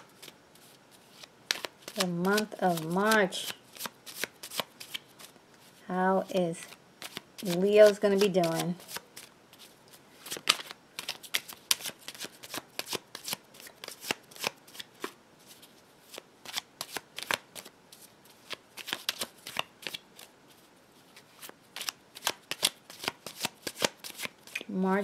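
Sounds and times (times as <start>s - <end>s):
cards being shuffled: 0.0s - 24.8s.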